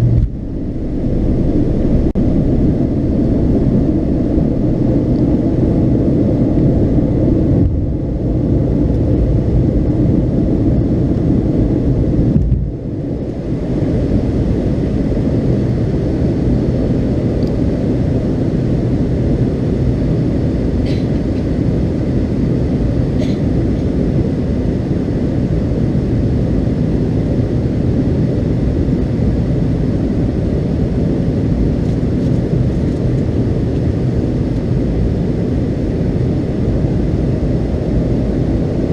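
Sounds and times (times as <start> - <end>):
airliner cabin low rumble: 0.0 - 38.9.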